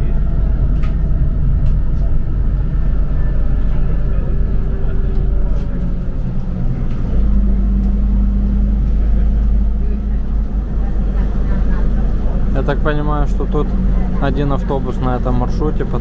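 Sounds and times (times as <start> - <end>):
bus engine drone: 0.0 - 16.0
road rumble: 0.0 - 16.0
steady hum: 0.0 - 16.0.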